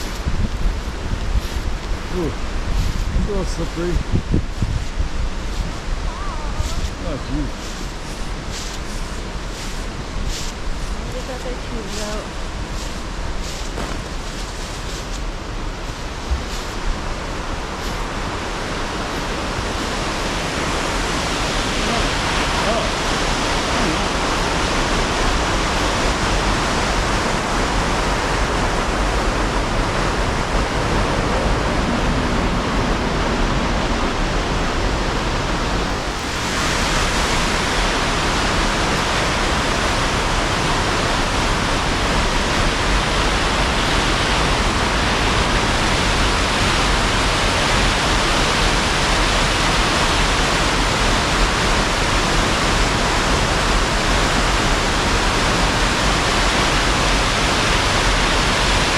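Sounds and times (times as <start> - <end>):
water roaring over a dam: 0.0 - 58.9.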